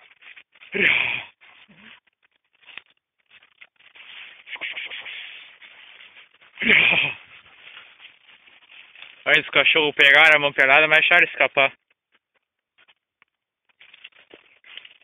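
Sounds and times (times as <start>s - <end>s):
rustling through brush and grass: 0.0s - 15.0s.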